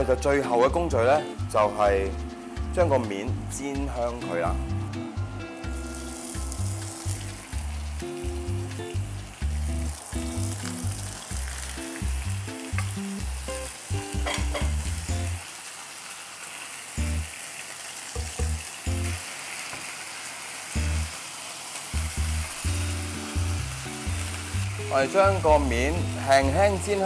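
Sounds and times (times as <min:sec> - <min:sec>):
bass line of background music: 0:00.0 - 0:15.4, 0:17.0 - 0:17.4, 0:18.2 - 0:19.2, 0:20.8 - 0:21.2, 0:22.0 - 0:27.0
meat sizzling in hot oil: 0:00.0 - 0:27.0.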